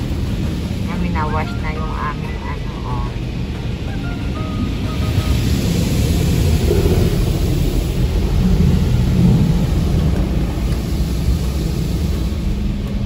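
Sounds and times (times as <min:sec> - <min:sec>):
car wash water jets spraying: 0:00.0 - 0:13.0
deep rumble: 0:00.0 - 0:13.0.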